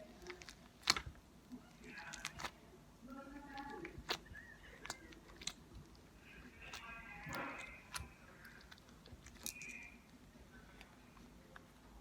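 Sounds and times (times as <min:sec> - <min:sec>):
crunchy slime clicks and crackles: 0:00.0 - 0:02.6, 0:03.4 - 0:11.7.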